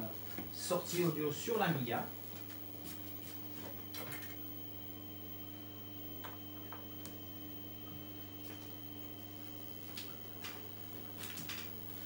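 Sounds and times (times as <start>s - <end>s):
electrical hum: 0.0s - 12.0s
faint high whine: 0.0s - 12.0s.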